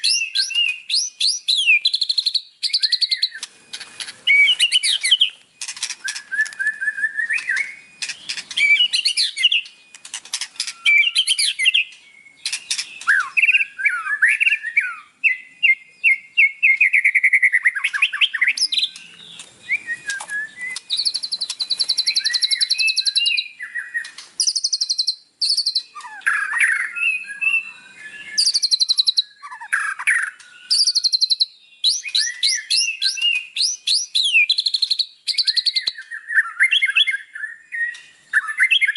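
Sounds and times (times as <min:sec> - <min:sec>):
songbird singing varied song: 0:00.0 - 0:38.9.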